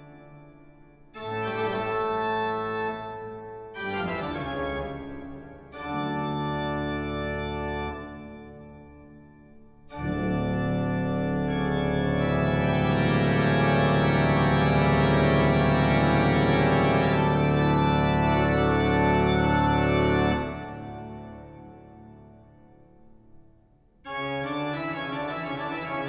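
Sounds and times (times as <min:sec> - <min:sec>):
organ-like keyboard chords: 0:00.0 - 0:26.0.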